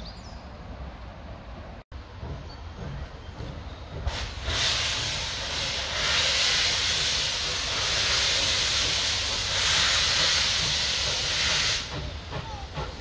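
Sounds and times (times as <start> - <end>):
steam locomotive hissing steam: 2.1 - 13.0.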